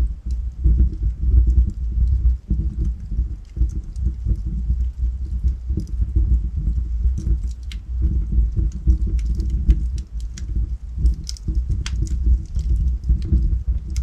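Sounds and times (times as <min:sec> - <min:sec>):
fire rumbling: 0:00.0 - 0:14.0
firewood crackling and popping: 0:00.0 - 0:14.0.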